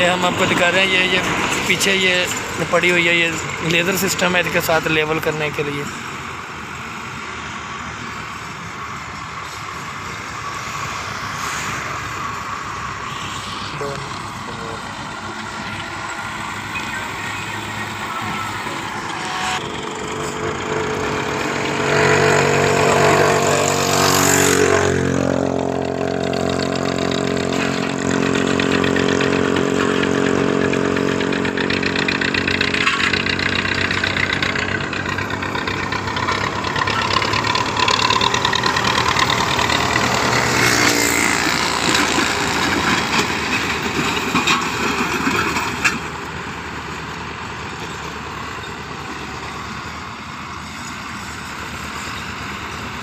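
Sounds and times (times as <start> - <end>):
diesel tractor engines: 0.0 - 53.0.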